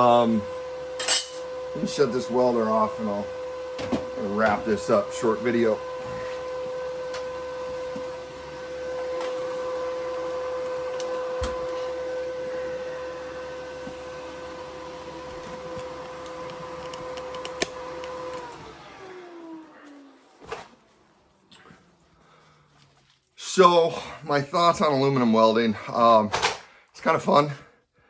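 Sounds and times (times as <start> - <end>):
welder cooling fan hum: 0.0 - 26.3.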